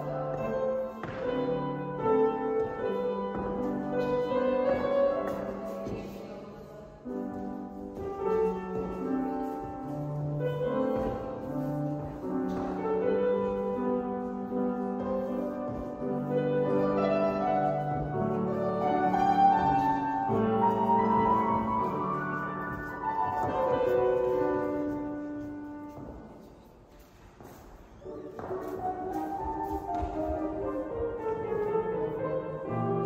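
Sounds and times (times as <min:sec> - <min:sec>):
slow classical piano chords: 0:00.0 - 0:33.0.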